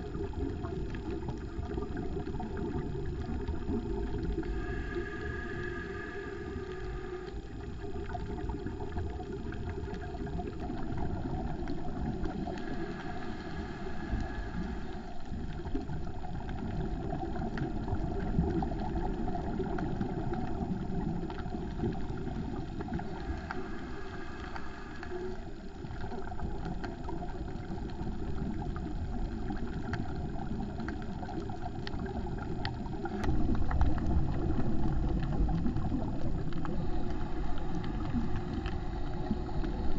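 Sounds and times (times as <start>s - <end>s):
faint underwater clicks: 0.0s - 39.9s
underwater low rumble: 0.0s - 39.9s.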